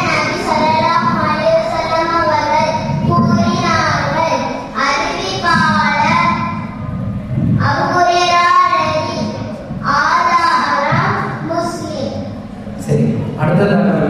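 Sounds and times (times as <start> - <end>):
child chanting: 0.0 - 6.6, 7.5 - 12.4.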